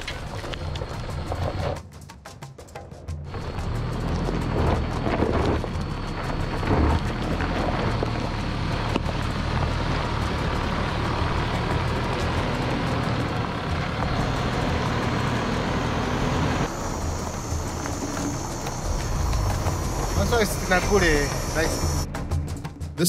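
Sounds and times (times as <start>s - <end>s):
car engine and road noise: 0.0s - 1.9s, 3.1s - 23.0s.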